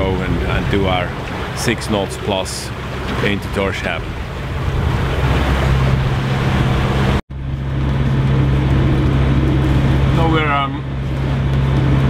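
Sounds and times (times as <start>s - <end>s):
boat engine droning: 0.0s - 12.0s
sea noise: 0.0s - 12.0s
wind: 0.0s - 12.0s.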